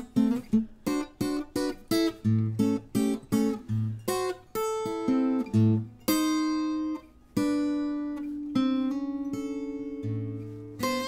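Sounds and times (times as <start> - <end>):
acoustic guitar blues lick: 0.0 - 11.0.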